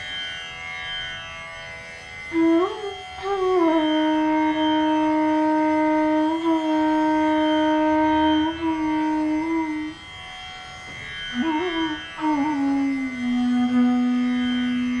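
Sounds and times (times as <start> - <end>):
steady drone: 1.8 - 15.0
bamboo flute playing: 2.3 - 15.0.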